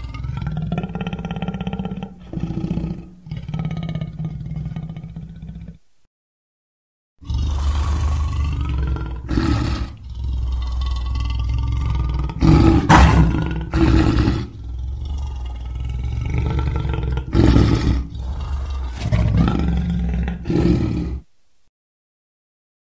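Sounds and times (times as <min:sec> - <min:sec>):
lion growling: 0:00.0 - 0:05.8, 0:07.2 - 0:21.3
lion roaring: 0:00.0 - 0:05.8, 0:07.2 - 0:21.3.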